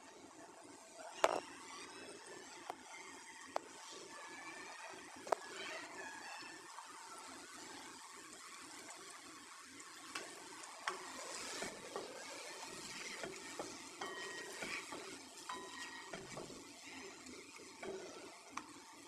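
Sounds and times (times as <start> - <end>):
cooking hiss: 0.0 - 19.0.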